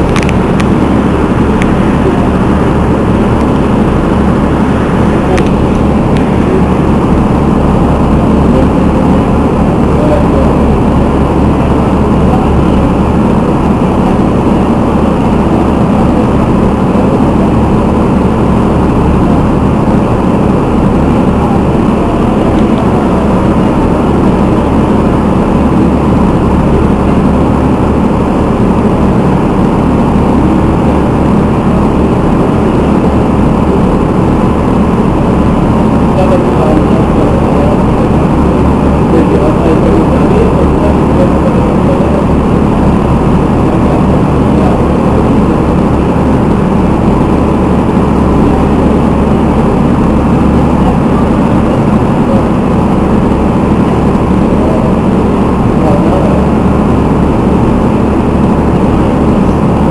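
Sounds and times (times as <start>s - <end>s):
boat diesel engine idling: 0.0s - 59.9s.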